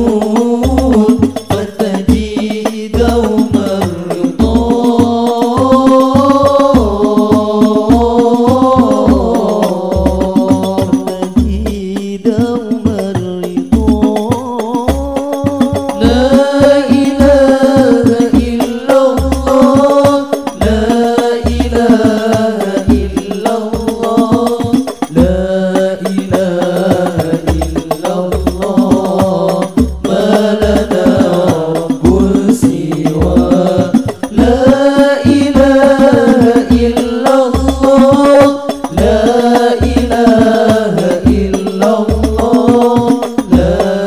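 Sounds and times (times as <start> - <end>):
heavy bass-drum beat: 0.0 - 44.0
person singing ornamented melody: 0.0 - 44.0.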